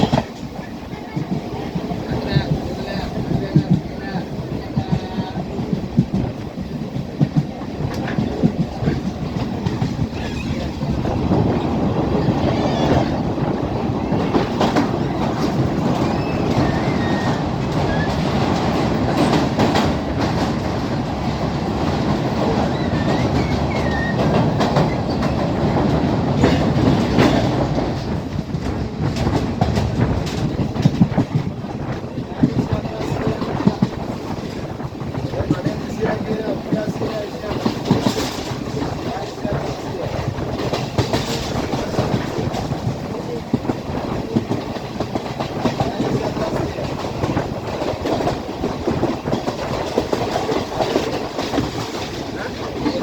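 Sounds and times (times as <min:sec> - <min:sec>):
train rumble: 0:00.0 - 0:53.0
wheels clattering over rail joints: 0:04.6 - 0:53.0.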